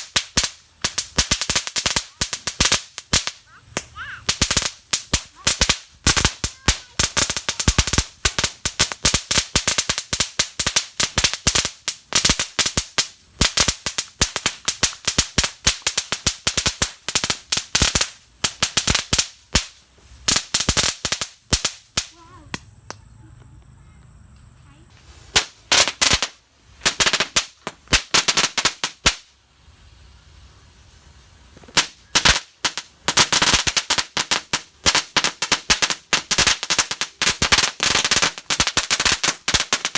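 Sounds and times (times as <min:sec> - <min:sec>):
firecrackers banging: 0:00.0 - 0:23.1, 0:24.7 - 0:39.9.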